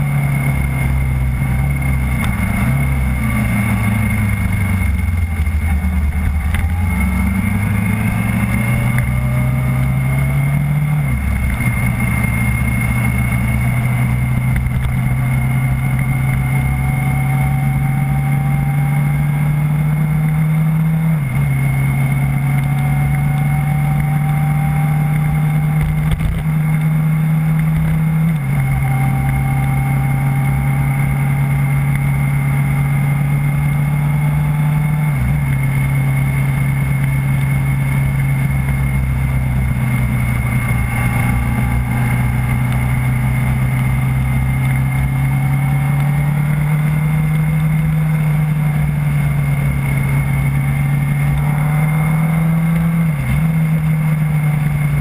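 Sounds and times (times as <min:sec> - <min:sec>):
road noise: 0:00.0 - 0:55.0
vehicle engine cruising: 0:00.0 - 0:55.0.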